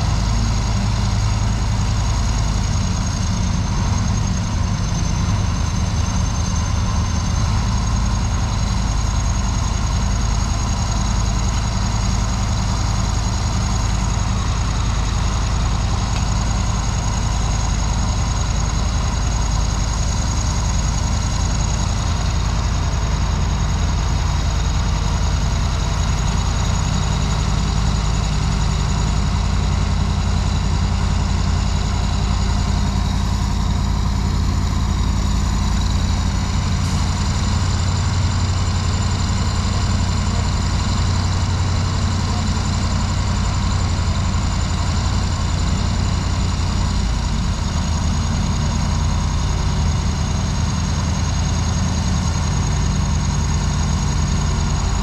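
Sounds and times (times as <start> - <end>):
heavy machinery engines running: 0.0 - 55.0.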